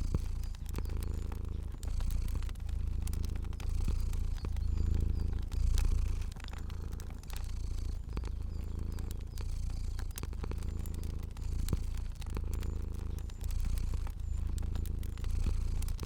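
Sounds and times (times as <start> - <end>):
cat purring: 0.0 - 16.0
fire crackling: 0.0 - 16.0.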